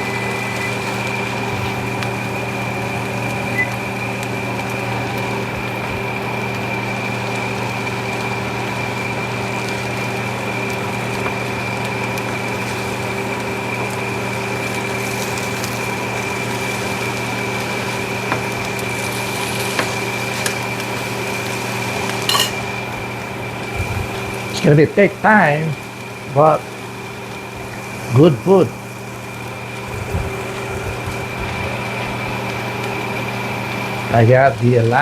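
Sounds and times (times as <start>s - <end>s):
chicken sizzling in a pan: 0.0s - 35.0s
droning hum with high whine: 0.0s - 35.0s.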